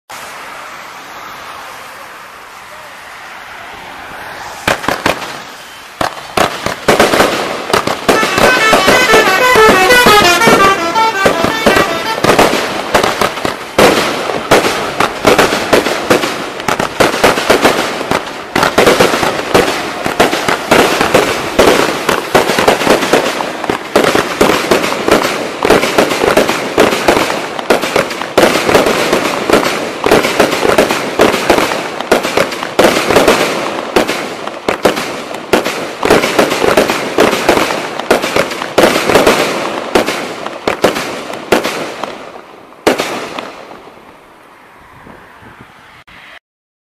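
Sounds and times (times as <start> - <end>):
fireworks crackling bangs: 0.1 - 44.2.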